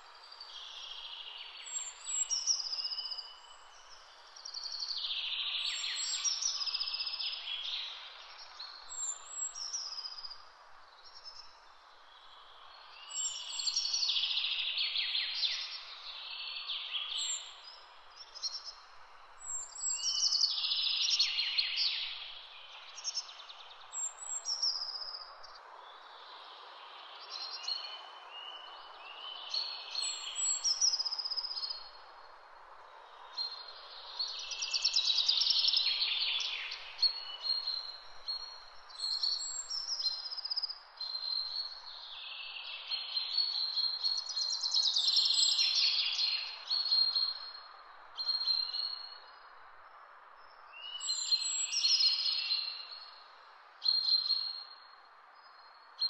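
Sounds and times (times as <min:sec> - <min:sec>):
steady background hiss: 0:00.0 - 0:55.9
songbirds singing: 0:00.0 - 0:56.0.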